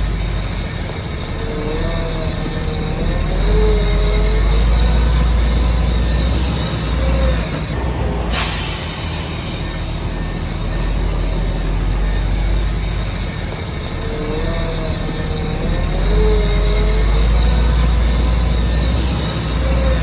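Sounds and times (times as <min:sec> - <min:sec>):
diesel earthmoving machinery rumbling: 0:00.0 - 0:20.0.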